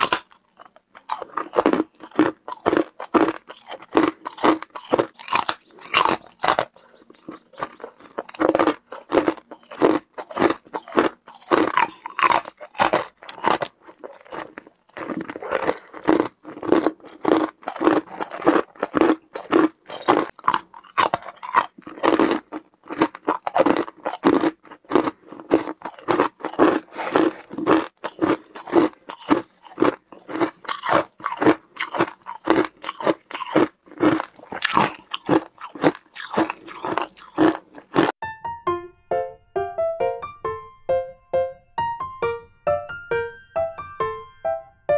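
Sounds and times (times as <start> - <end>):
ice crunching between teeth: 0.0 - 38.2.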